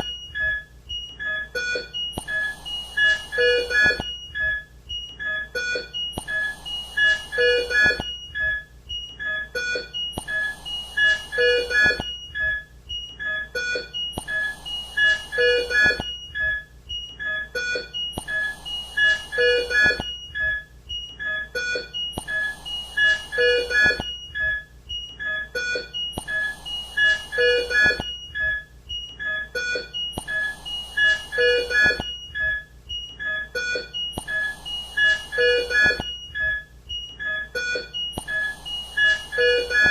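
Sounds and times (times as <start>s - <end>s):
patient monitor alarm beeps: 0.0s - 39.9s.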